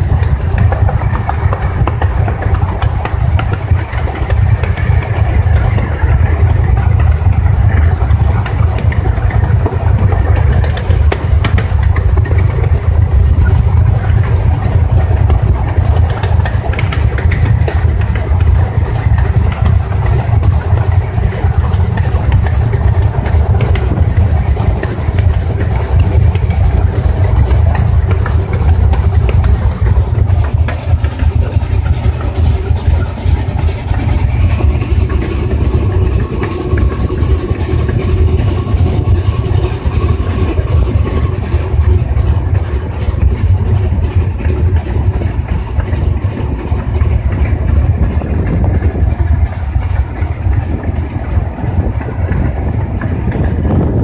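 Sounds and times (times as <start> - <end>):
steam locomotive low rumble: 0.0 - 54.0.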